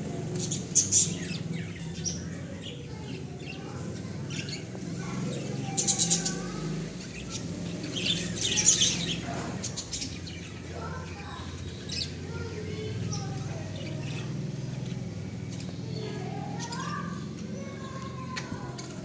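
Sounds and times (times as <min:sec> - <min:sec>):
budgerigars chirping and chattering: 0:00.0 - 0:19.0.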